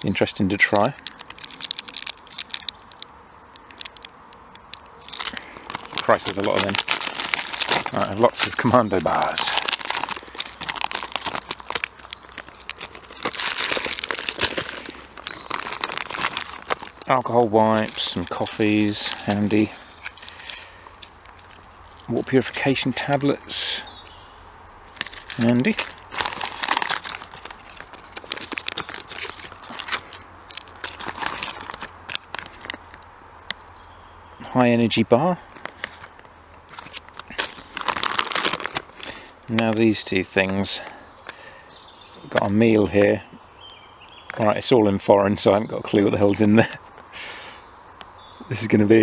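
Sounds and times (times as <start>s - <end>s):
food wrappers crinkling: 0.0s - 23.9s, 24.8s - 33.1s, 35.5s - 43.0s.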